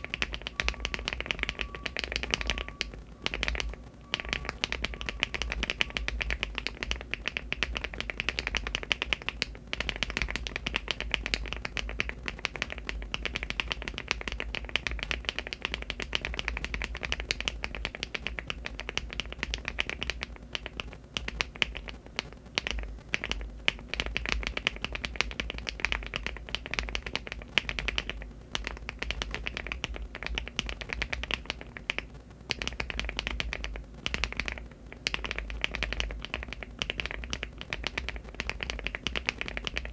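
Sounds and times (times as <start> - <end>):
mechanical keyboard typing: 0.0 - 22.0, 22.6 - 39.9.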